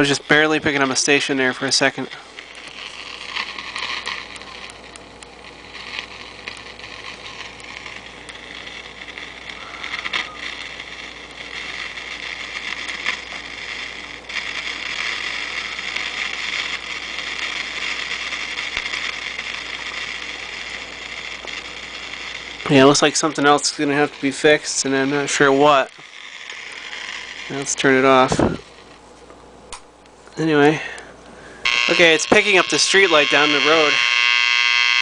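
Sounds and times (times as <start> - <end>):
radio static hiss with crackles: 0.0 - 35.0.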